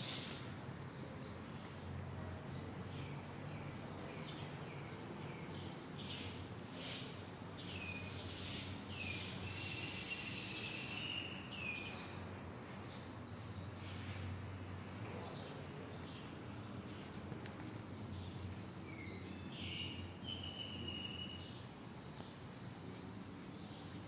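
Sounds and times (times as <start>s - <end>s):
low electrical hum: 0.0s - 24.0s
bird chirping: 2.5s - 14.4s, 15.1s - 24.0s.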